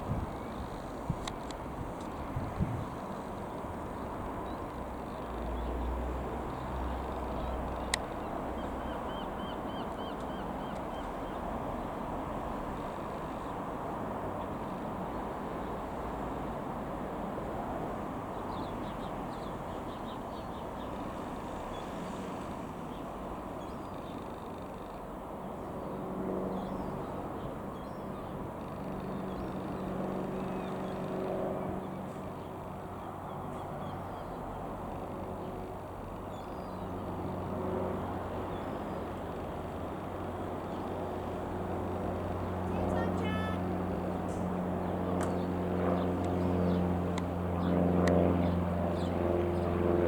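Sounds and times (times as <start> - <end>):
distant propeller plane droning: 0.0 - 50.0
outdoor background noise: 0.0 - 50.0.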